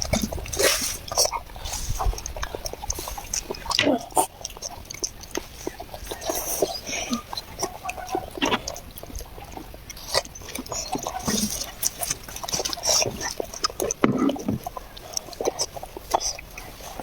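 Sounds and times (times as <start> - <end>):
child eating noisily: 0.0 - 17.0.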